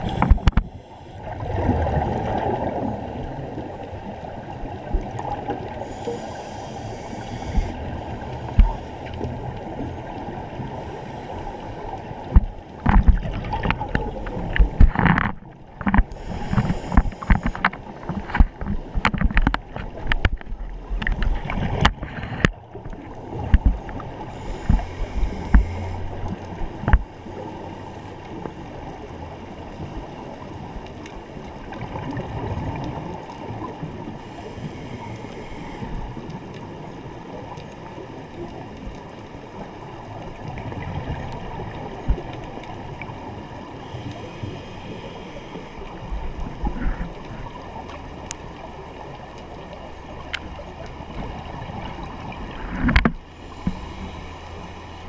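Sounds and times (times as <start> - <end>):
muffled underwater water rushing: 0.0 - 55.0.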